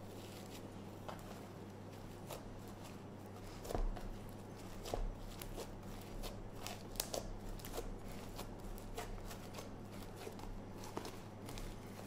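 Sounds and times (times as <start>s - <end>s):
slime crackling and squishing: 0.0s - 12.0s.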